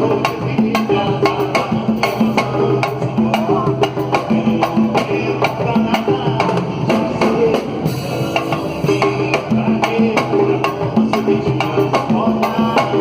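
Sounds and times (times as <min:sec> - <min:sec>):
samba percussion beat: 0:00.0 - 0:13.0.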